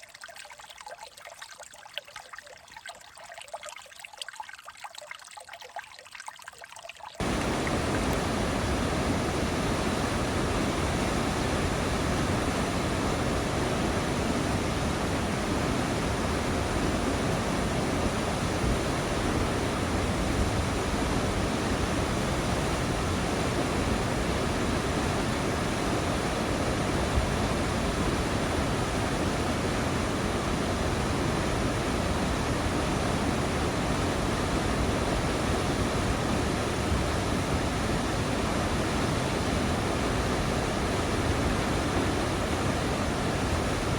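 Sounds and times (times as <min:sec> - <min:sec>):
faint water trickle: 0:00.0 - 0:43.9
rushing stream water: 0:07.2 - 0:43.9.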